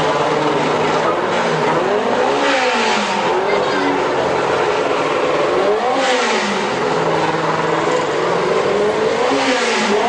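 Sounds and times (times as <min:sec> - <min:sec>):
racing car engine revving: 0:00.0 - 0:10.0.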